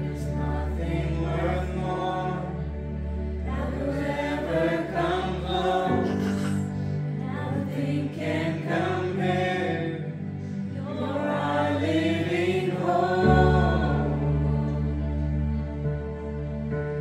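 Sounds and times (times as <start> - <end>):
voices singing worship music: 0.0 - 16.4.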